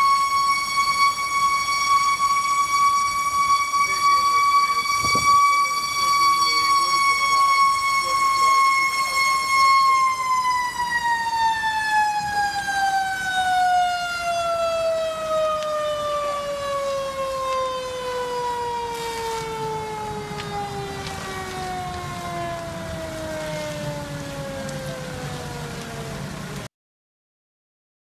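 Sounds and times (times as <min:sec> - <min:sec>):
fire engine siren winding down: 0:00.0 - 0:26.7.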